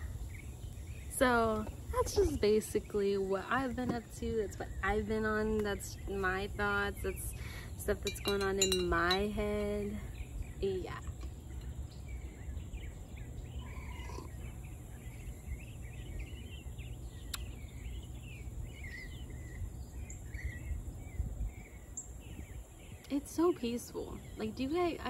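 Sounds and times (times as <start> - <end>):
birds chirping and calling: 0.0 - 25.0
low background rumble: 0.0 - 25.0.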